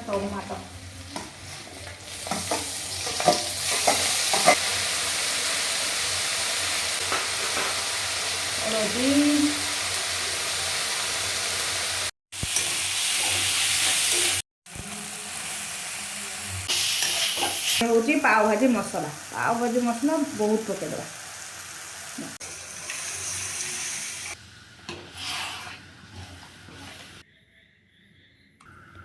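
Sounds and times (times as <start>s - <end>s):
onions frying in hot oil: 0.0s - 27.2s.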